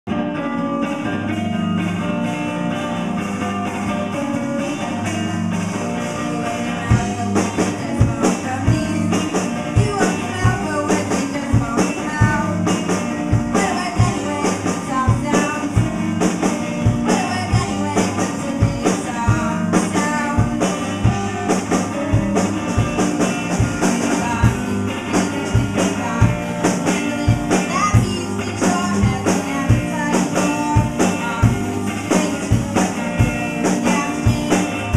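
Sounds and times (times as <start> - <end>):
sustained guitar notes: 0.1 - 34.9.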